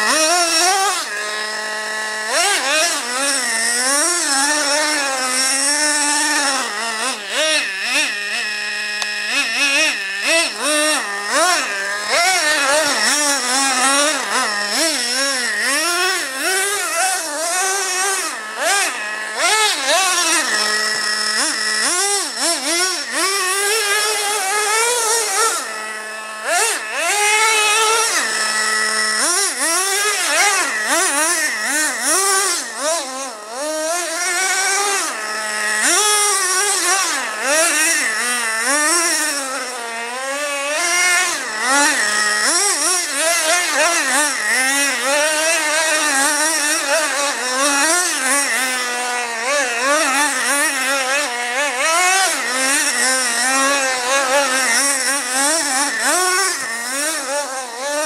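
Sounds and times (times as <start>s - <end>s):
small nitro engine revving: 0.0s - 58.0s.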